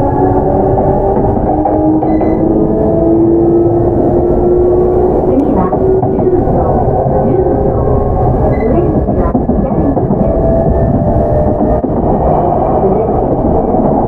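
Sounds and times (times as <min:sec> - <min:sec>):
train motor humming tone: 0:00.0 - 0:14.0
train wheels rumbling on rails: 0:00.0 - 0:14.0.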